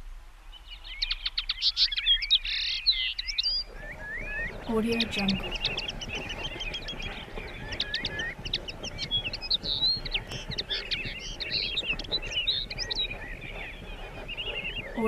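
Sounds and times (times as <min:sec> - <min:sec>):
birds chirping and trilling: 0:00.4 - 0:15.0.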